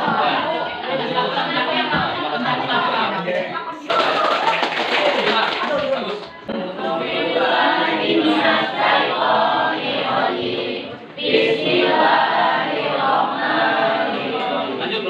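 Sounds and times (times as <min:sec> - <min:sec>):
group chanted recitation: 0:00.0 - 0:15.0.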